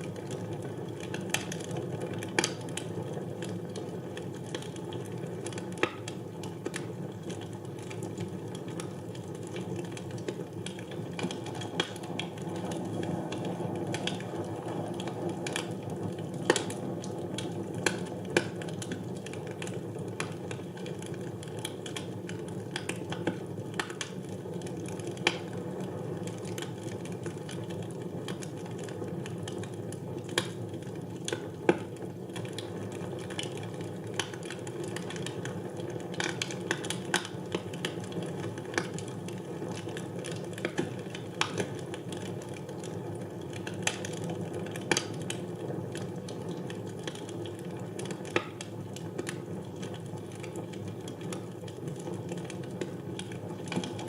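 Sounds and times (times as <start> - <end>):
small fire crackles: 0.0 - 54.0.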